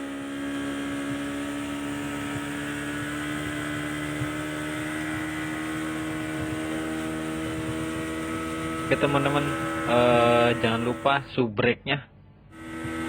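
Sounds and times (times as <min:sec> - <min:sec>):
speedboat engine droning: 0:00.0 - 0:11.3, 0:12.5 - 0:13.0.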